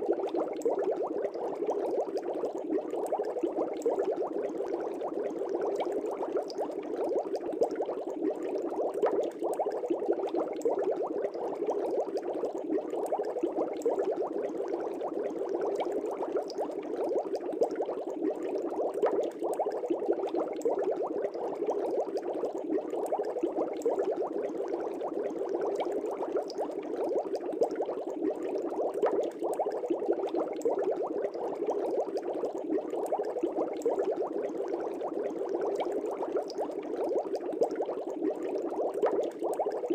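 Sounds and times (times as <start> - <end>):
aquarium air bubbles: 0.0 - 39.9.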